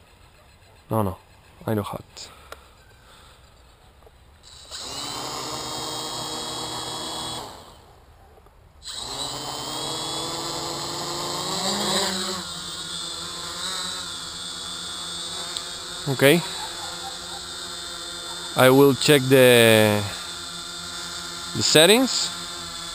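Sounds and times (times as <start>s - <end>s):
quadcopter propellers whirring: 0.0s - 22.9s.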